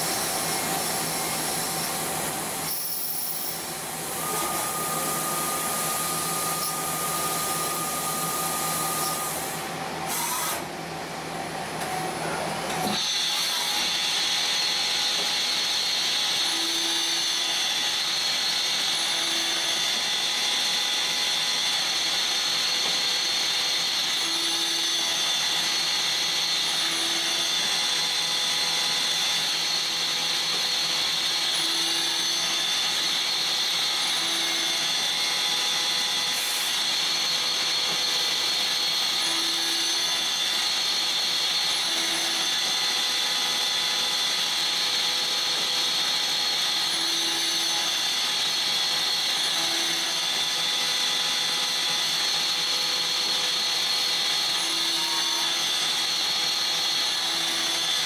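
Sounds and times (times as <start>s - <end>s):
lathe cutting and spindle whine: 0.0s - 58.0s.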